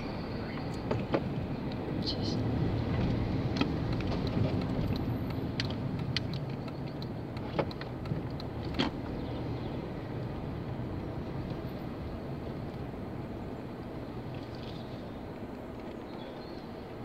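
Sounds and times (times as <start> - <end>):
car engine and tyres humming: 0.0 - 17.0.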